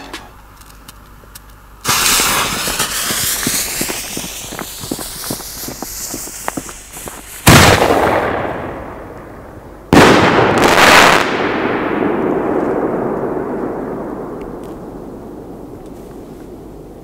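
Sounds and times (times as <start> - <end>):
firework bangs: 1.8 - 16.8
rumbling echo: 1.9 - 10.6, 11.2 - 17.0.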